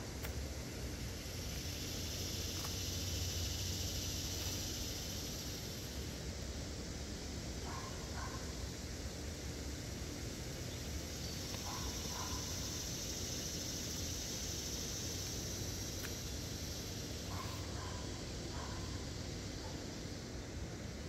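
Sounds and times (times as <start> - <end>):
constant low rumble: 0.0 - 21.0
high insect drone: 0.0 - 21.0.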